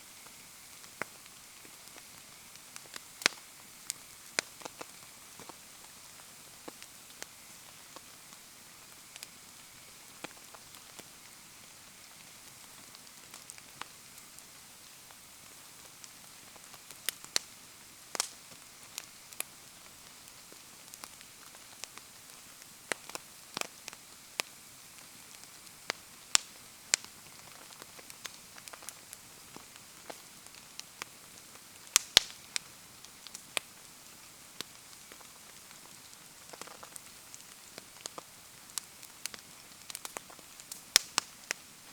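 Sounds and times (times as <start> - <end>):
bonfire crackling: 0.1 - 41.9.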